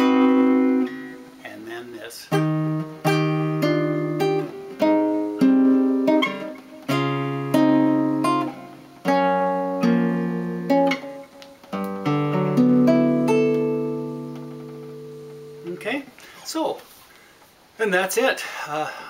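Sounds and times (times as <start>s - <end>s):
classical guitar plucked chords: 0.0s - 16.1s.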